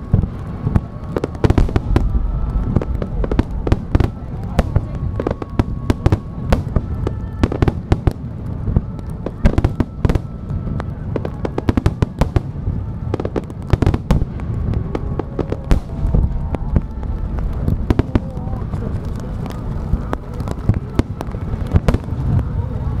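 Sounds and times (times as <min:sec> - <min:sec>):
continuous low rumble: 0:00.0 - 0:23.0
fireworks bursting with sharp bangs: 0:00.0 - 0:23.0.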